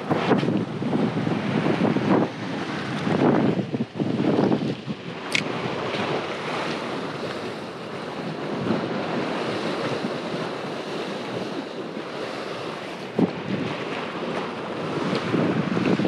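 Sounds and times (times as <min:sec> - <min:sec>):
sea waves washing against seawall: 0:00.0 - 0:16.0
wind buffeting microphone: 0:00.0 - 0:16.0.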